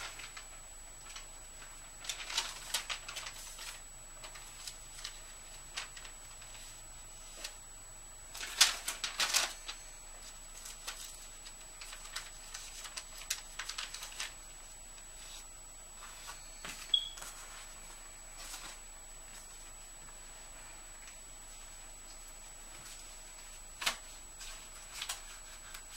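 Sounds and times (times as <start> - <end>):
paper rustling and flapping: 0.0 - 7.6, 8.3 - 25.9.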